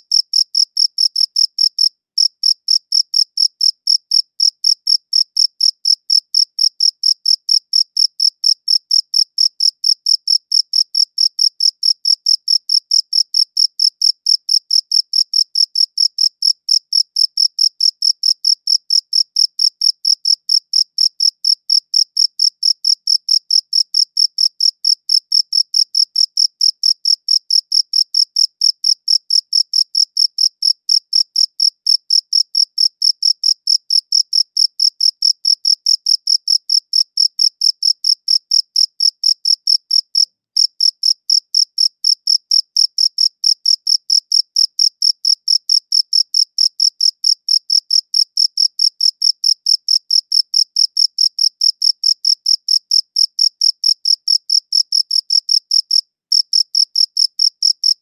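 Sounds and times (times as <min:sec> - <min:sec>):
cricket chirping: 0:00.1 - 0:58.0.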